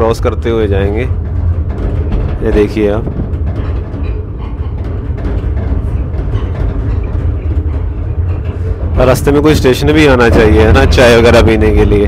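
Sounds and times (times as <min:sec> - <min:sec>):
train rumbling and rattling: 0:00.0 - 0:12.0.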